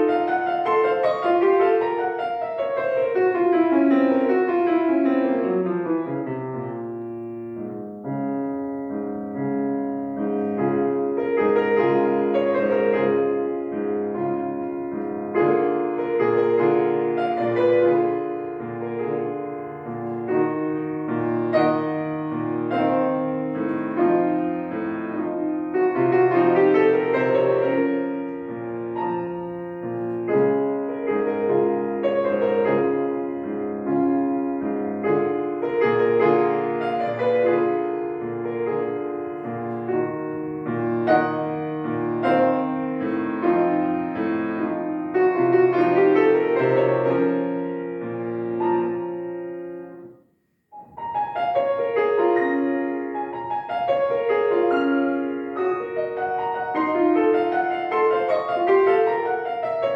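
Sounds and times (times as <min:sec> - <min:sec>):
solo piano playing: 0:00.0 - 0:59.9.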